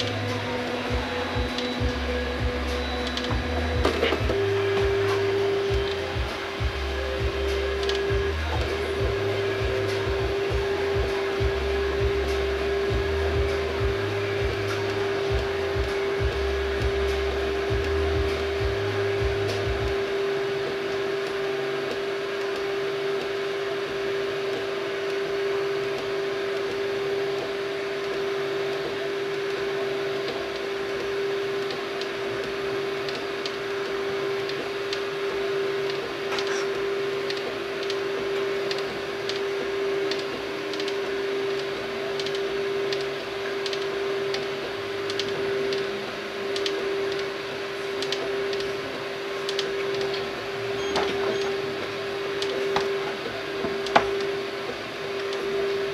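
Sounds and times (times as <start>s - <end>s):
three d printer humming: 0.0s - 55.9s.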